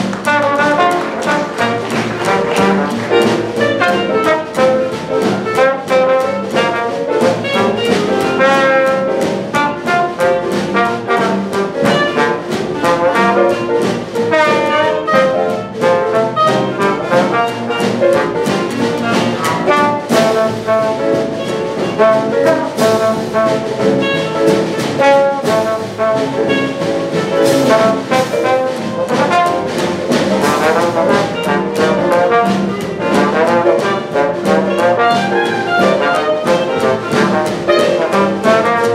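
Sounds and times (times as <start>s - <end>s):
jazz band playing: 0.0s - 38.9s
trombone solo: 0.2s - 38.9s.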